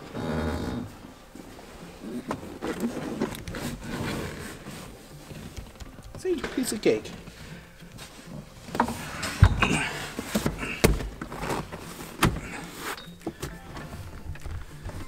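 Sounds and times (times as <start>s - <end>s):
handling noise and rustle: 1.1s - 15.0s.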